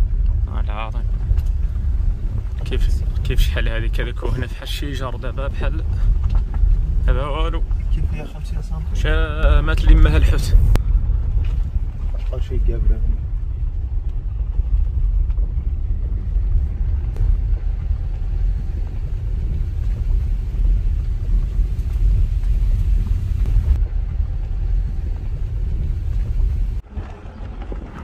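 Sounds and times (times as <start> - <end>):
road noise rumble: 0.0 - 28.0
wind buffeting: 0.0 - 28.0.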